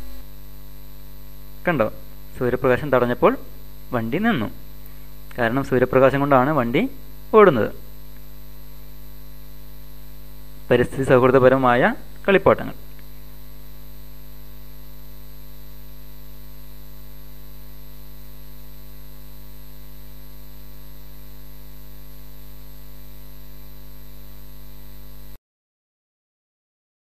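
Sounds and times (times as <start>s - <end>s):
electrical mains hum: 0.0s - 25.4s.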